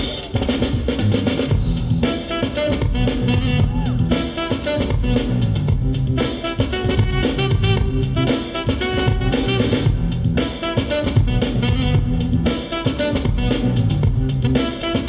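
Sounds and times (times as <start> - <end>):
music with drum-kit beat: 0.0 - 15.0.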